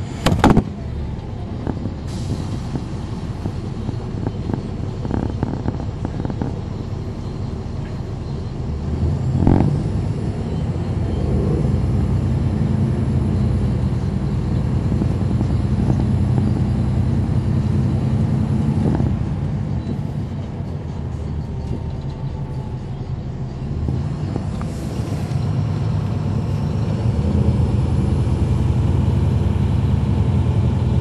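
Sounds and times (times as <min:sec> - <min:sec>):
bus diesel engine under load: 0:00.0 - 0:31.0.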